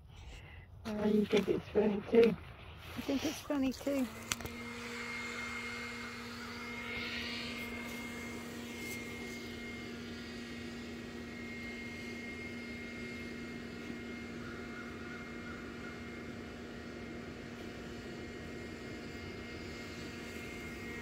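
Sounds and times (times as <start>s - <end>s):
low mechanical hum: 0.0s - 21.0s
high whine: 0.9s - 21.0s.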